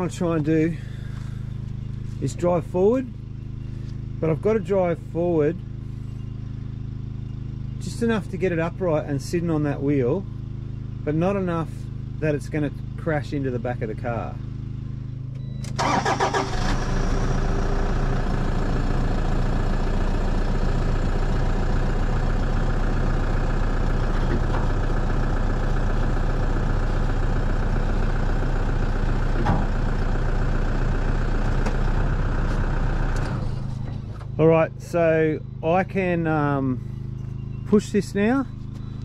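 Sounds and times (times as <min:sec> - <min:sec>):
truck engine running at low revs: 0:00.0 - 0:39.0.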